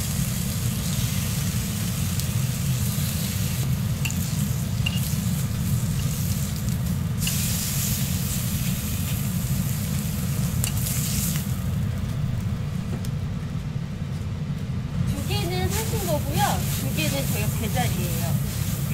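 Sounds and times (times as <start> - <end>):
bacon sizzling on griddle: 0.0 - 11.7, 15.2 - 18.9
steady low hum: 0.0 - 18.9.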